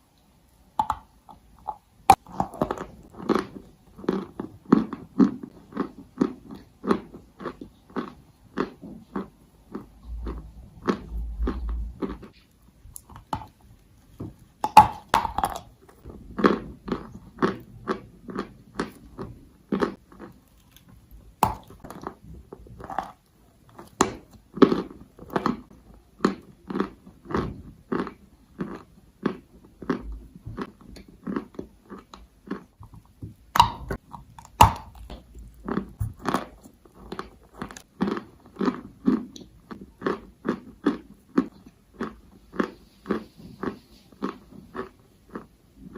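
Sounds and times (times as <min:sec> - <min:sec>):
chewing and crunching chalk: 0:00.8 - 0:45.9.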